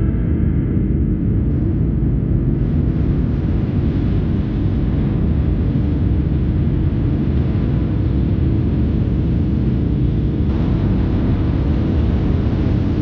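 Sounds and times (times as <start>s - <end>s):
airplane cabin engine rumble: 1.2s - 13.0s.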